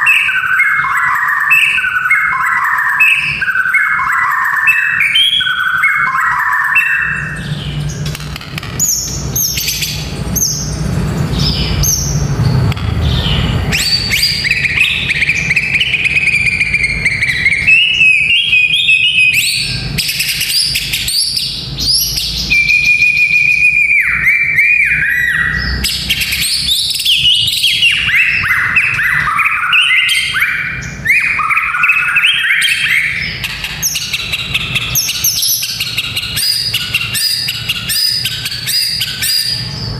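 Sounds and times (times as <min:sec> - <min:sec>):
songbird singing whistled phrases: 0:00.0 - 0:08.0, 0:13.3 - 0:39.8.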